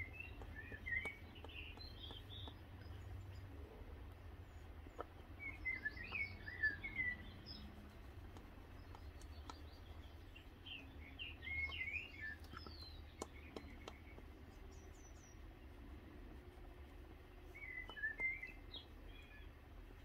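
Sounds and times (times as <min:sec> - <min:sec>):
small bird twittering: 0:00.0 - 0:03.5, 0:04.4 - 0:15.8, 0:17.3 - 0:20.0
low steady hum: 0:00.0 - 0:20.0.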